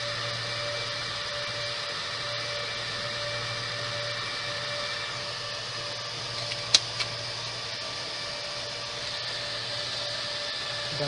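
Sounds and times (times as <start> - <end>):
server cooling fans hissing: 0.0 - 11.0.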